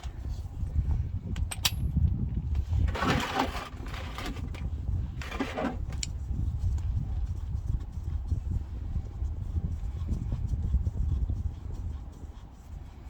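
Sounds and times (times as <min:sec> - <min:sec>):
steady low rumble: 0:00.0 - 0:03.0, 0:03.8 - 0:13.0.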